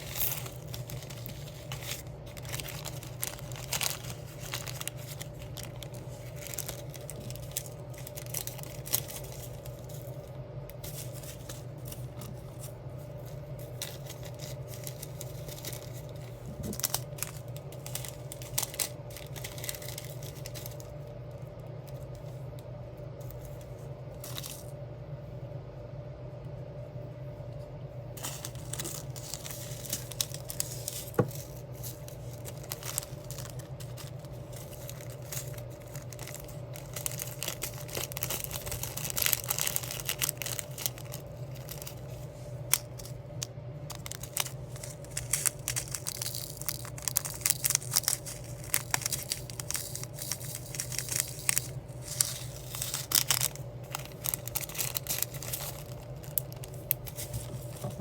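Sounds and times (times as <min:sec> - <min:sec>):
plastic sheet crinkling and peeling: 0:00.0 - 0:22.6, 0:23.2 - 0:24.8, 0:28.1 - 0:58.0
steady low hum: 0:00.0 - 0:58.0.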